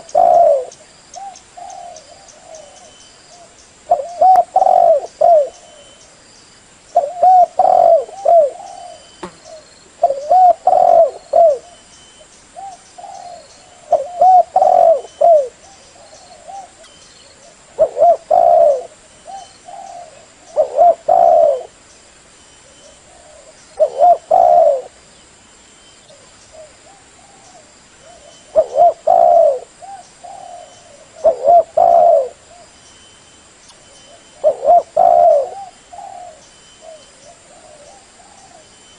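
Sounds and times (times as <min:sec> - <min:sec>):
dove cooing: 0:00.0 - 0:06.0, 0:07.0 - 0:11.9, 0:12.6 - 0:21.8, 0:22.6 - 0:25.0, 0:26.1 - 0:32.7, 0:34.1 - 0:38.8.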